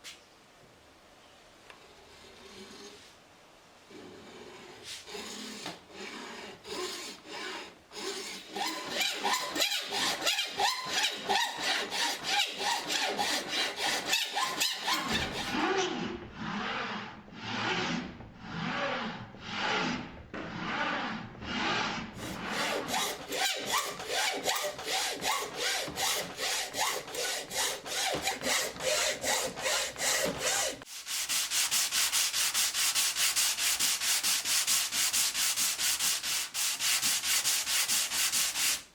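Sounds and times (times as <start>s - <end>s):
hand tool strokes on wood: 3.9s - 38.8s.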